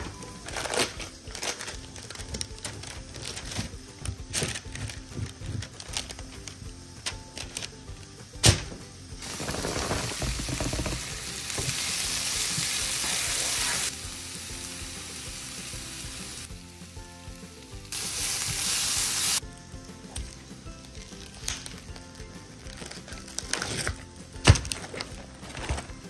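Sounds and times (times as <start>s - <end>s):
onions sizzling in a pan: 0.0s - 24.2s
faint music: 0.0s - 26.0s.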